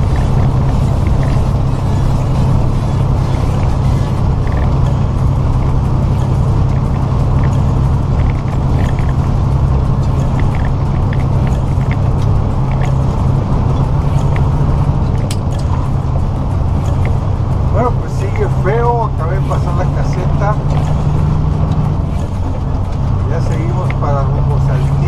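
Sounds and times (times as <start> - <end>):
diesel engine drone: 0.0 - 25.0
road noise: 0.0 - 25.0.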